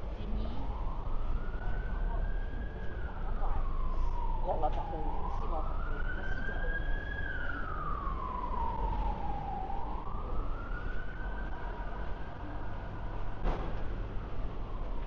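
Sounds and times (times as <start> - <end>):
emergency vehicle siren wailing: 0.0 - 15.0.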